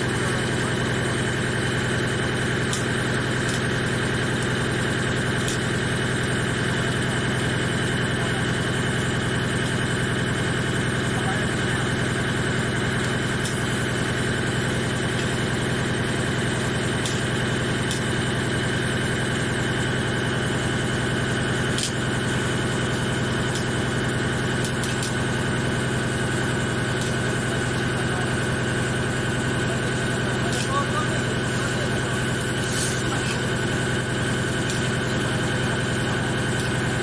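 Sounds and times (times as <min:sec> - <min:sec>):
high machine whine: 0:00.0 - 0:37.0
lathe machine hum: 0:00.0 - 0:37.0.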